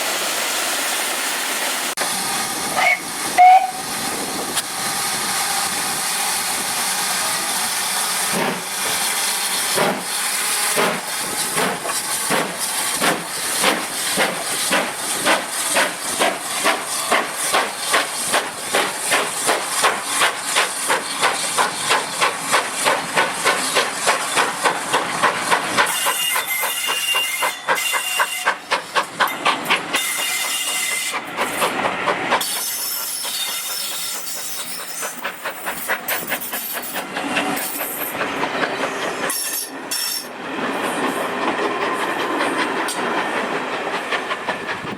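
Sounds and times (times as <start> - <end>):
steam hissing: 0.0 - 40.4
steam locomotive chuffing: 1.9 - 44.9.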